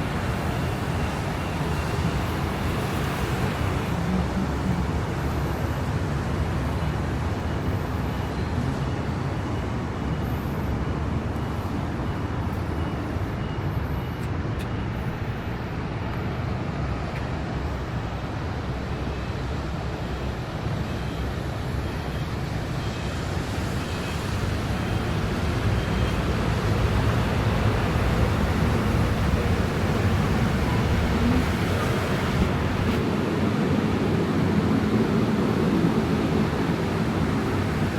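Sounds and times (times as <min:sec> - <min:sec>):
traffic on wet streets: 0:00.0 - 0:37.9.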